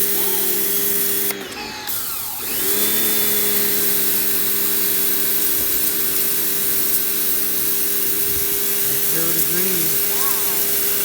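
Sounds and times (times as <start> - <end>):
pressure washer motor humming: 0.0 - 11.0.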